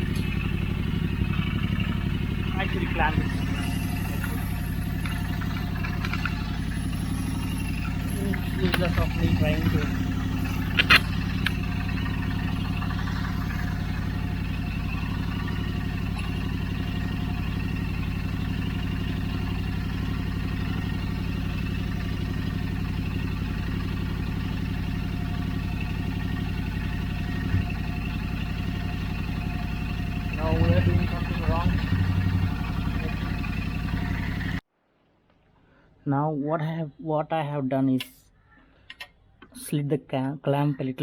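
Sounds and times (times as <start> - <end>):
motorcycle engine idling: 0.0 - 34.6.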